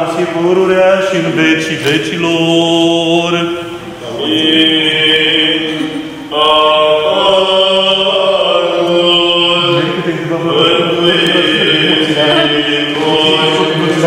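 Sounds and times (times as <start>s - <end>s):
voices chanting long notes: 0.0s - 14.0s.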